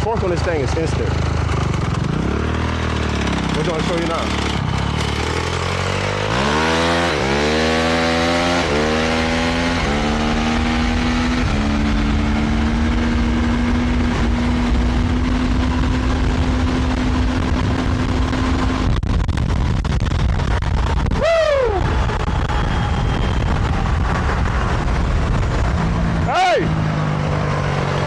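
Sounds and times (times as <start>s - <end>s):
dirt bike engine accelerating: 0.0s - 28.0s
wind rumble on microphone: 4.4s - 28.0s.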